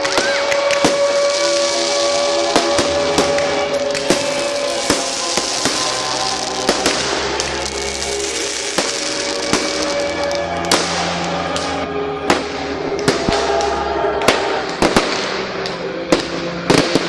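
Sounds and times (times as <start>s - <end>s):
fireworks bangs and cracks: 0.0s - 17.0s
music with long held notes: 0.0s - 17.0s.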